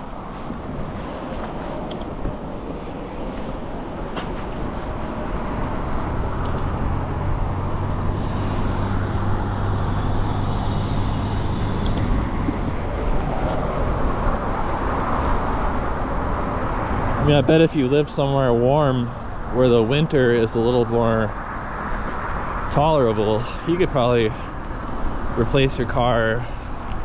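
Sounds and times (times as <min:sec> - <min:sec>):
vehicle engine humming: 0:00.0 - 0:27.0
wind and road noise: 0:00.0 - 0:27.0.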